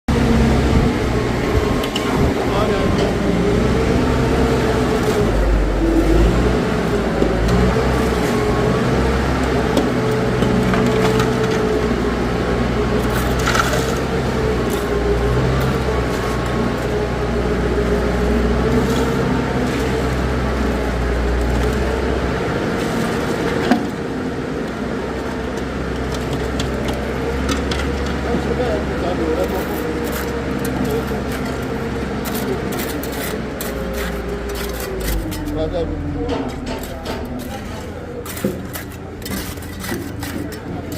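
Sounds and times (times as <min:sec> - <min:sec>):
steady engine hum: 0:00.1 - 0:40.9
shovels scraping concrete: 0:06.0 - 0:24.0, 0:25.1 - 0:40.9.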